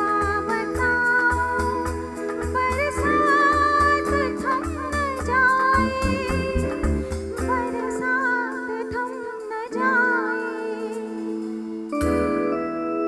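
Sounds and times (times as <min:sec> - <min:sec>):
live band playing film song: 0:00.0 - 0:13.0.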